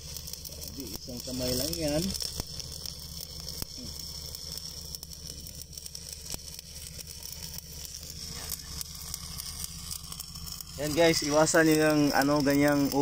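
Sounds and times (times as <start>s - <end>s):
steady low hum: 0.0s - 13.0s
welding arc crackling: 0.0s - 13.0s.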